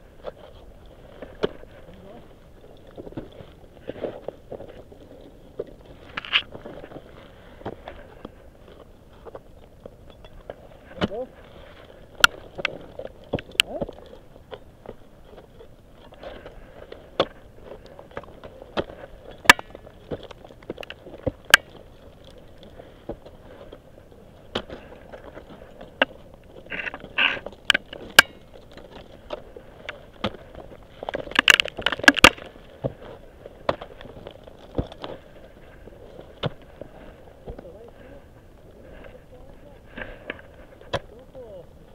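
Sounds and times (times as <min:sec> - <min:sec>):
crunching and scraping: 0:00.0 - 0:41.9.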